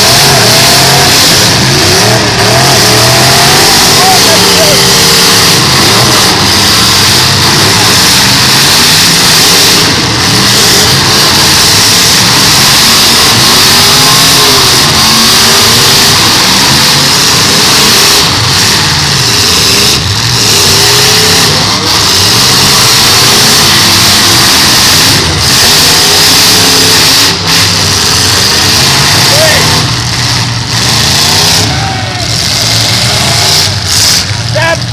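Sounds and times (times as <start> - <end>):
car engines revving hard: 0.0 - 34.9.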